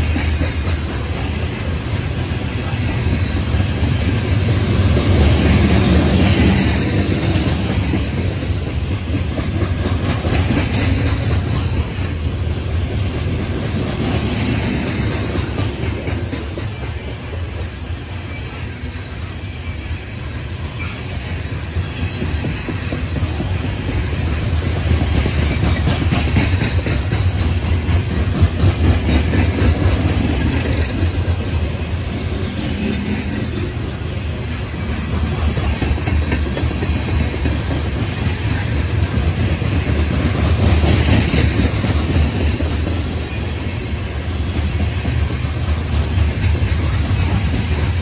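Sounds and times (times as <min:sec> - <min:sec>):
train cars rumbling on rails: 0:00.0 - 0:48.0.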